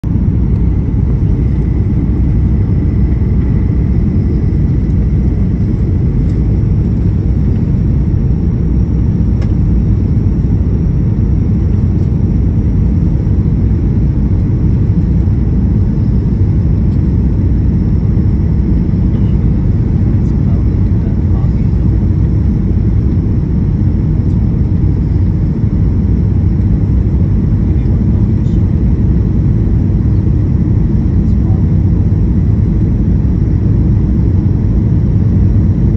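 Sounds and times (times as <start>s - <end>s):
airliner cabin engine rumble: 0.0s - 35.9s.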